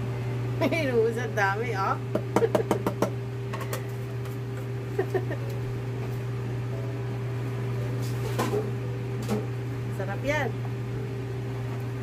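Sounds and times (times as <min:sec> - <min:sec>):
vent fan humming: 0:00.0 - 0:12.0.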